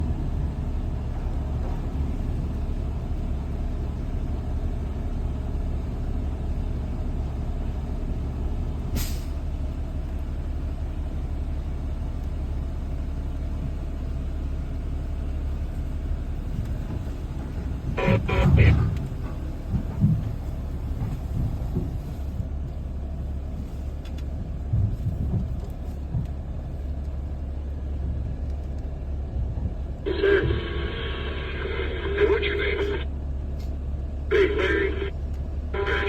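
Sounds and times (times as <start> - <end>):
heavy diesel engine rumbling: 0.0 - 36.0.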